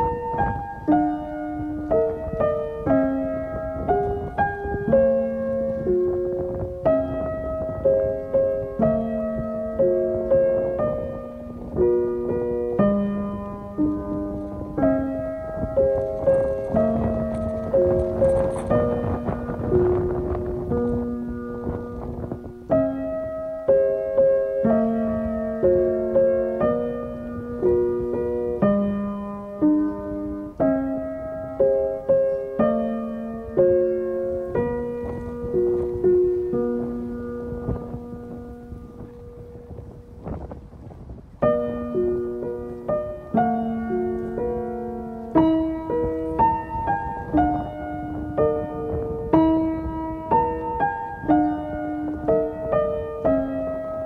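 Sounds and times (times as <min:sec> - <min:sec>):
piano playing slow chords: 0:00.0 - 0:54.0.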